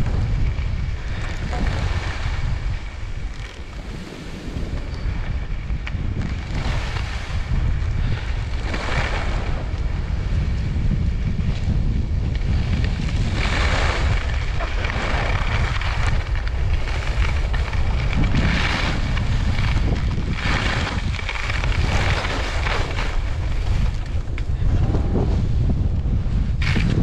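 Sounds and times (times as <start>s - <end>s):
skis carving across snow: 0.0s - 27.0s
wind rumbling on microphone: 0.0s - 27.0s.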